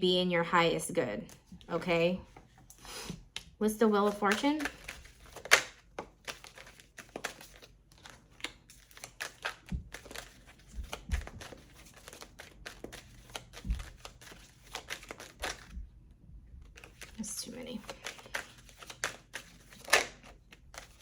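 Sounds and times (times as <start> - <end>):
cards being shuffled: 2.3 - 15.8, 16.6 - 21.0.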